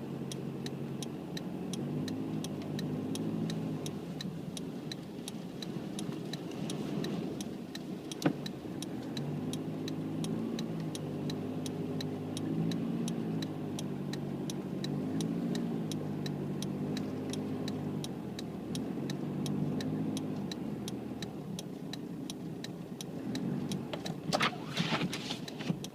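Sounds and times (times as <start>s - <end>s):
indicator relay ticking: 0.0s - 24.4s, 25.4s - 25.9s
car engine humming: 0.0s - 25.9s.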